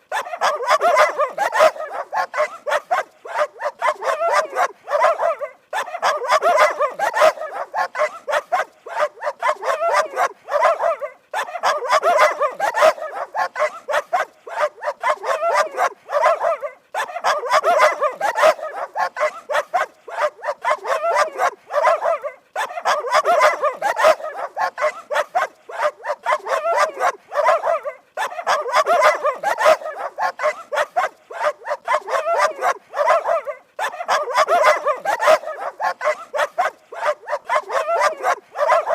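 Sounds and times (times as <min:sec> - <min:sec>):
dogs barking rapidly: 0:00.0 - 0:38.9.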